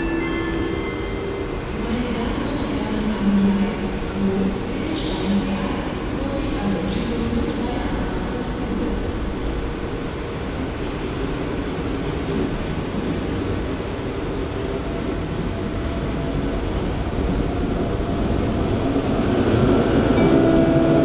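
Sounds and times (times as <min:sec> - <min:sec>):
train rolling past: 0:00.0 - 0:21.0.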